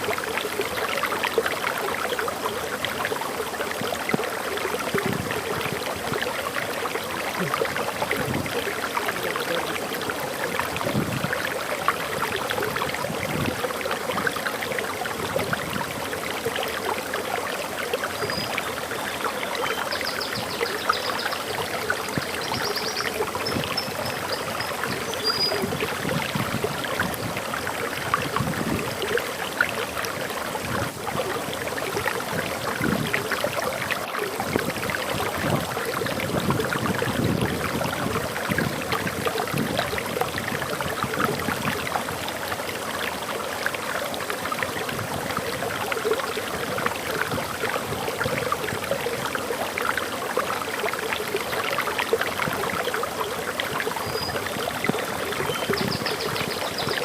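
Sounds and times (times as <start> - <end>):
waterfall rushing and splashing: 0.0 - 57.0.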